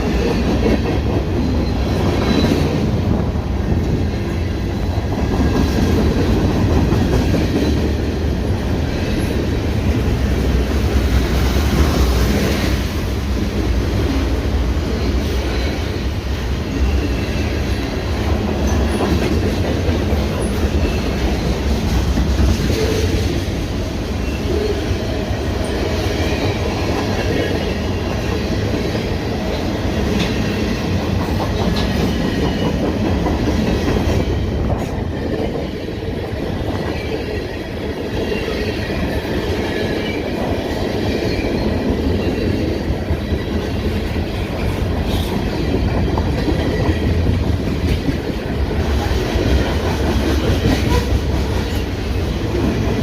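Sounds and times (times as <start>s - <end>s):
train wheels clattering on rail: 0.0s - 53.0s.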